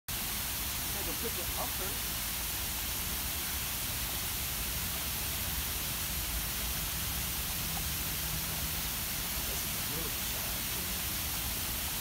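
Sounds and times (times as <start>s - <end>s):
water rushing over rocks: 0.1s - 12.0s.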